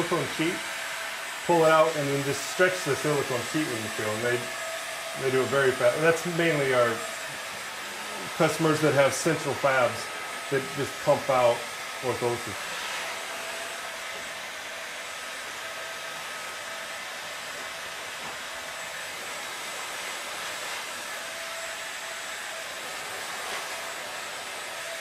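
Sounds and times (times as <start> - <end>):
heat gun blowing hot air: 0.0 - 25.0.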